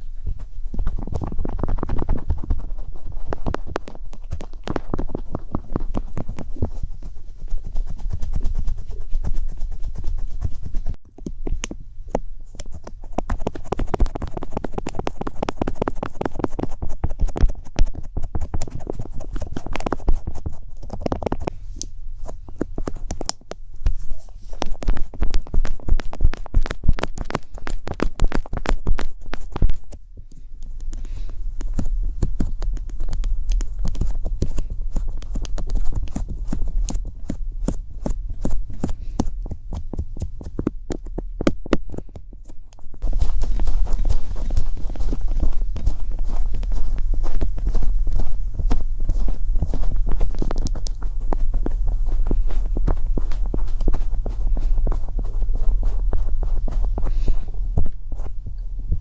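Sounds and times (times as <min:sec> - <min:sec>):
rapid clicking and tapping: 0:00.2 - 0:30.0, 0:30.8 - 0:58.5.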